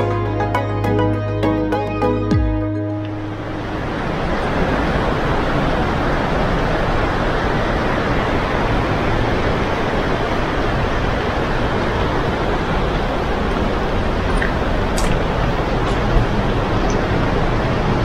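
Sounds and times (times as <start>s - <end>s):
waterfall rushing: 1.2s - 18.0s.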